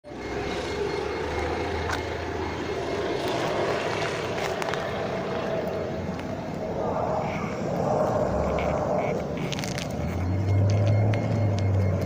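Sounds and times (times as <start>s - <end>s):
low rumble: 1.5s - 12.0s.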